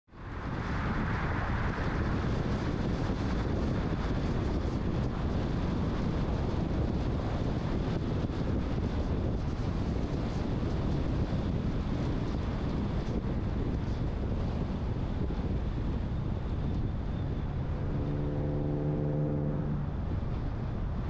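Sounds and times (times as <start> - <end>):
wind rumbling on microphone: 0.1 - 21.0
car road noise: 0.2 - 21.0.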